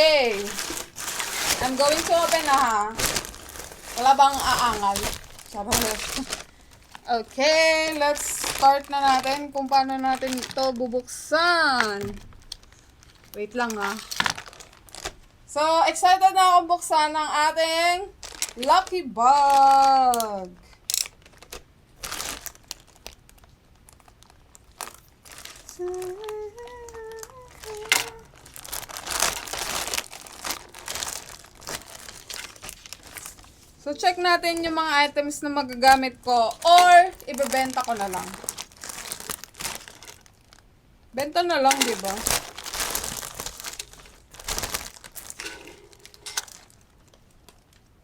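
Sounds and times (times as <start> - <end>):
packaging crinkling and rustling: 0.0 - 15.5, 17.7 - 48.0.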